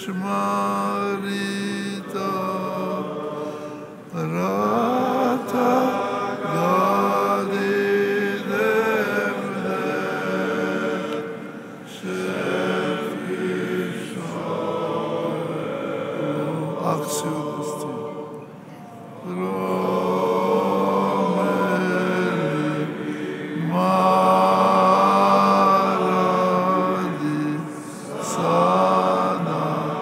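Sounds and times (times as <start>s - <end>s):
choir singing slow melody: 0.0s - 30.0s.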